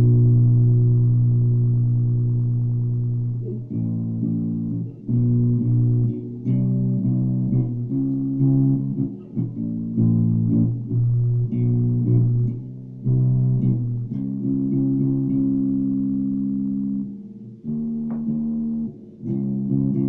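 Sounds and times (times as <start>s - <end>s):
electric bass plucked notes: 0.0s - 20.0s.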